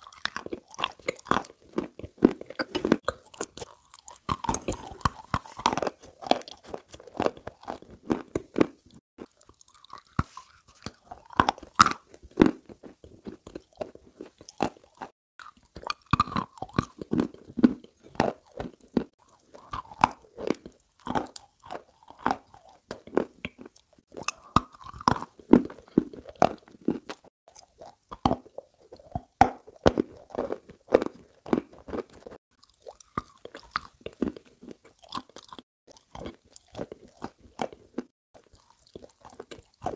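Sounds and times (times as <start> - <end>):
biscuits being bitten and chewed: 0.0 - 39.9.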